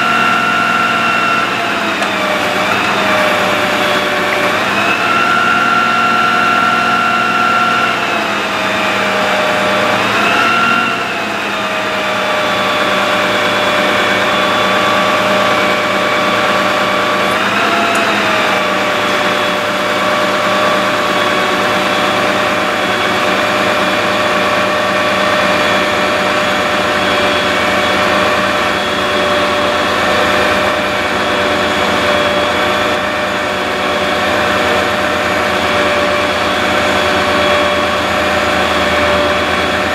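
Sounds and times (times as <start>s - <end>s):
hydraulic pump whining: 0.0s - 39.9s
truck engine running: 0.0s - 39.9s.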